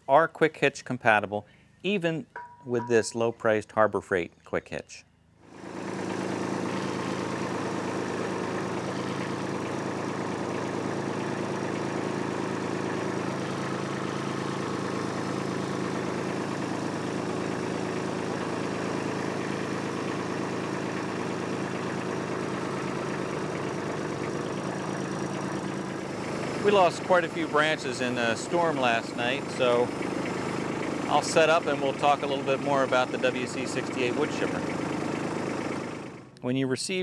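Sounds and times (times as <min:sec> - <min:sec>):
tractor diesel engine running: 0:05.5 - 0:36.4.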